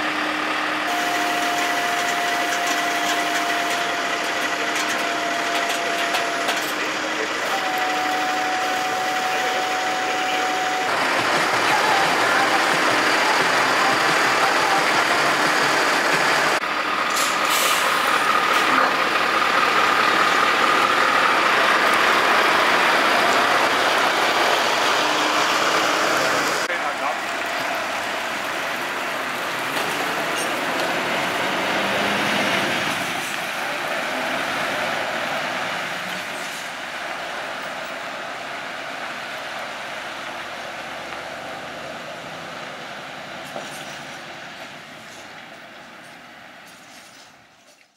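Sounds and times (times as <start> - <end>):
diesel truck engine running: 0.0 - 46.7.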